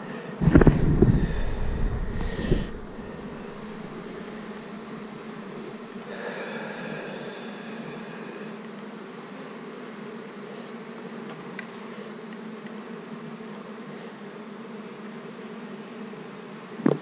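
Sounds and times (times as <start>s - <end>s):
honeybees buzzing: 0.1s - 6.3s, 7.0s - 17.0s.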